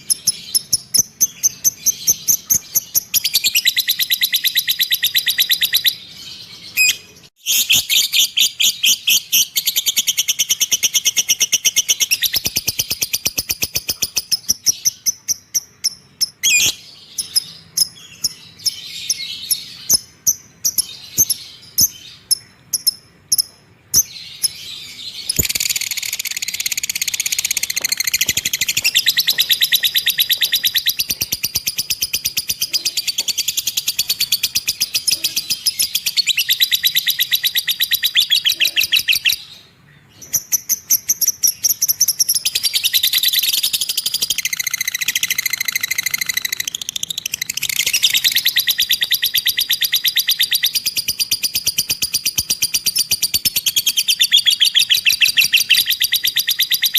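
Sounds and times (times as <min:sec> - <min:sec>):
cage bird trilling: 0:00.0 - 0:56.9.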